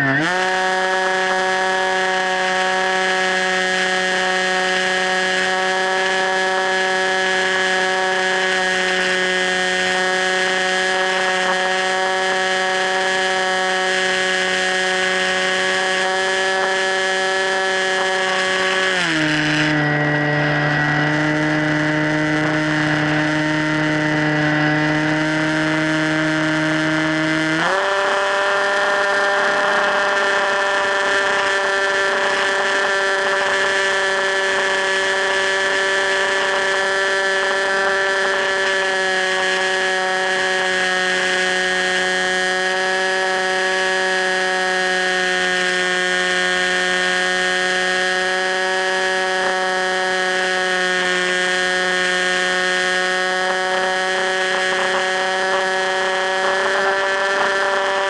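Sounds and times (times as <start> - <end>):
model plane motor whine: 0.0 - 58.0.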